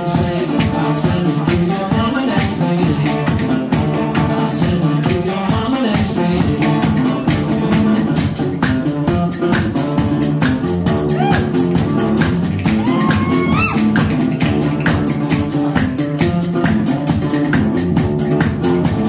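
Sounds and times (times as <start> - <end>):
kick drum beat: 0.2 - 19.0.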